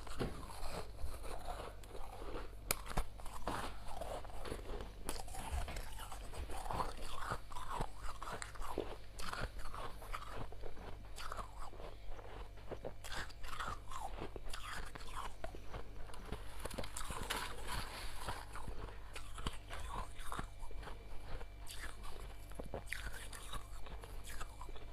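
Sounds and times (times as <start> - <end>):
crunchy frost being chewed: 0.0 - 24.9.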